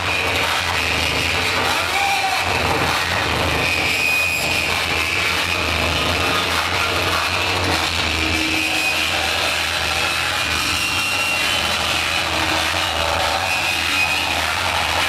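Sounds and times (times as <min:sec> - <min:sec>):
gritty hiss noise: 0:00.0 - 0:15.0.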